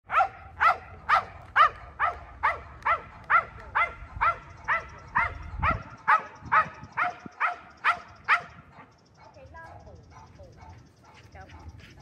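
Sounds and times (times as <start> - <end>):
dog barking: 0.1 - 11.8.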